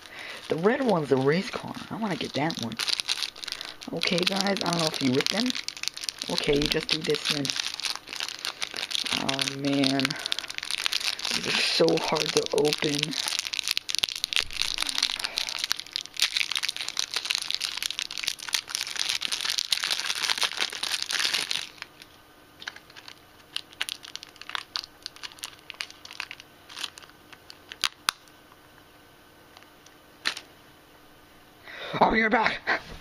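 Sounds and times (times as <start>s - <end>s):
plastic wrapping crinkling: 0.0s - 28.4s, 29.5s - 30.5s.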